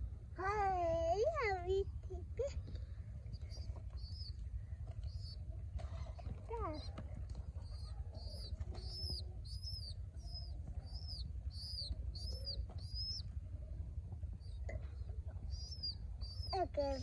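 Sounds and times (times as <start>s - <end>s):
baby pigeon begging peeps: 1.3s - 17.0s.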